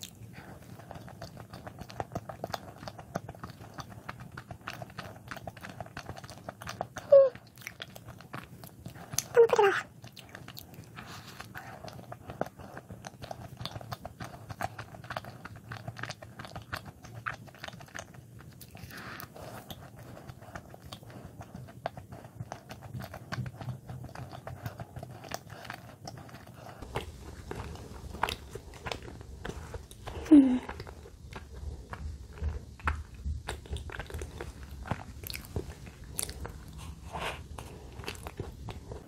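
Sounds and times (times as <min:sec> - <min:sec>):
wet chewing with mouth clicks: 0:00.0 - 0:39.0.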